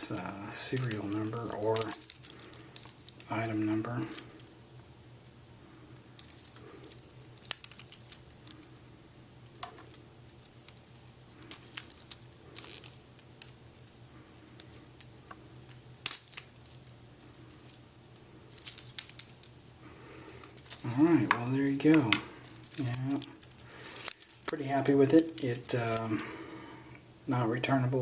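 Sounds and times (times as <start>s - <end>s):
rustling: 0.0s - 26.6s
faint low hum: 0.0s - 28.0s.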